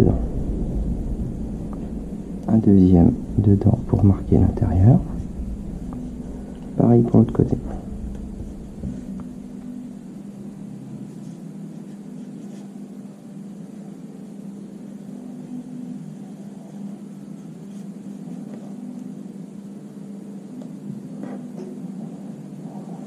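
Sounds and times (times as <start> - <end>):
even hiss: 0.0 - 19.0
low hum: 0.0 - 19.4.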